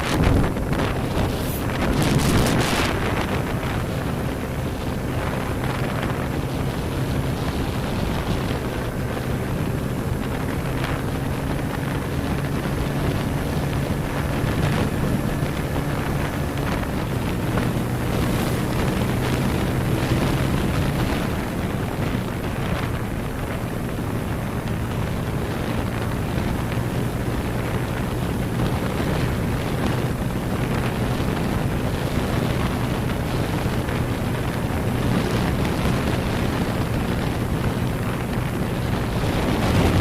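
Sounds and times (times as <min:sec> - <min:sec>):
motorcycle engine running: 0:00.0 - 0:40.0
wind buffeting on microphone: 0:00.0 - 0:40.0.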